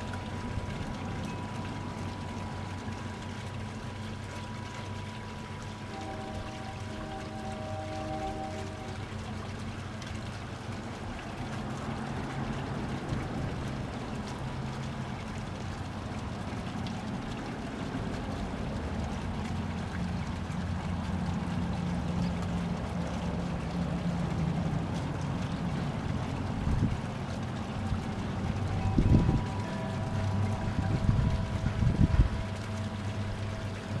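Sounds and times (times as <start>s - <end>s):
low diesel engine drone: 0.0s - 34.0s.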